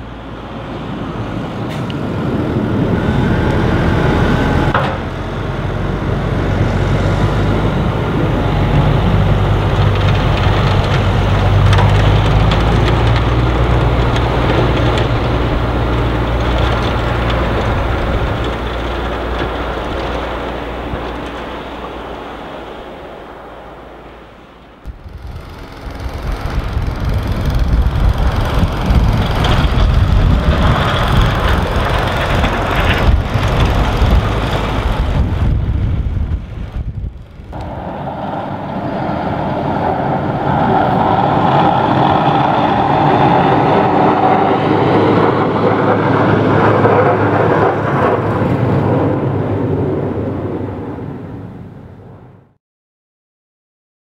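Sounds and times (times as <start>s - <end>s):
plow truck diesel engine: 0.0s - 51.4s
tractor diesel engine under load: 0.0s - 51.9s.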